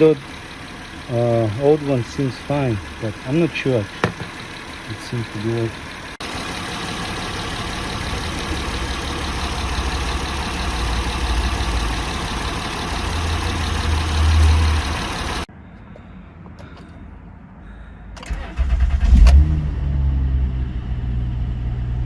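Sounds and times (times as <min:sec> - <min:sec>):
car engine idling: 0:00.0 - 0:19.2.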